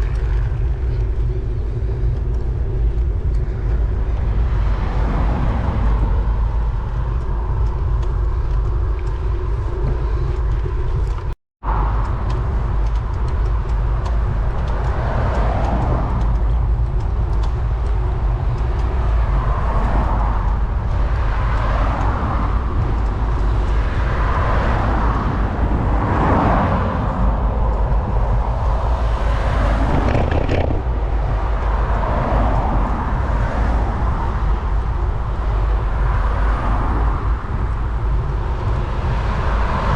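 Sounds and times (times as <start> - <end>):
road traffic passing: 0.0 - 39.9
wind rumble on microphone: 0.0 - 39.9.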